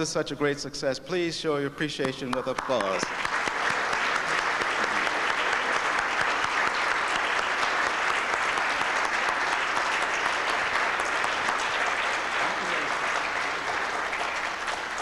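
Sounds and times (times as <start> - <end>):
crowd applauding: 2.3 - 15.0.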